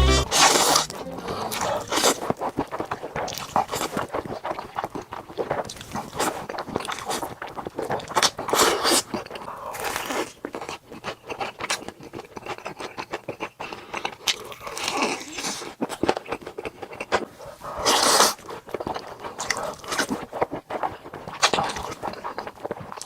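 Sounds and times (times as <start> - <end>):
crunching and chewing: 1.4 - 23.0.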